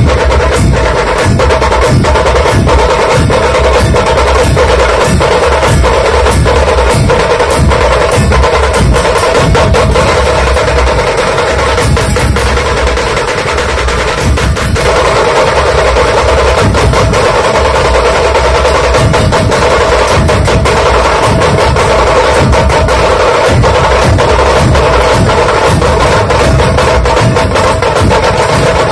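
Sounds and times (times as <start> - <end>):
loud music with drums: 0.0 - 28.9.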